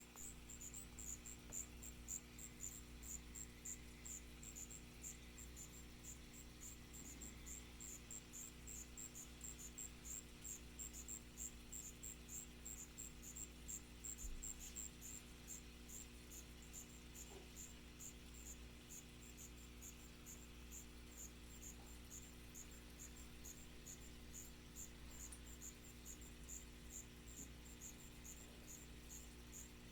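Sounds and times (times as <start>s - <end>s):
crickets chirping: 0.0s - 29.9s.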